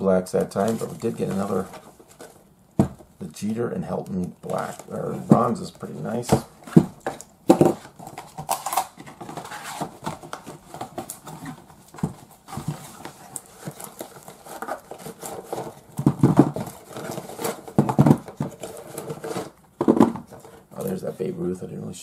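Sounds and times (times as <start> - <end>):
rustling: 0.3 - 21.4
boxes and figures knocking: 0.7 - 3.1, 4.4 - 8.4, 9.0 - 20.6.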